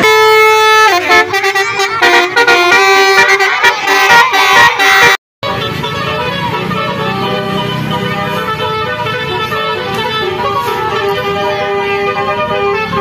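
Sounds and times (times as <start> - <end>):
multi-tone vehicle horn melody: 0.0 - 13.0.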